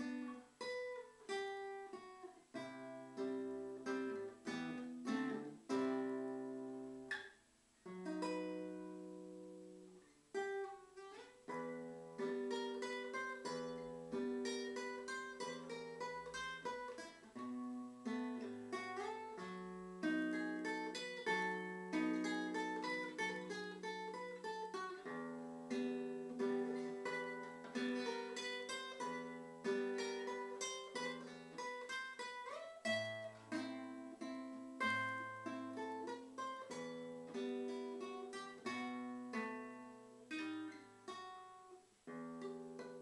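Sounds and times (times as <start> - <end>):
classical guitar fingerstyle: 0.0 - 43.0.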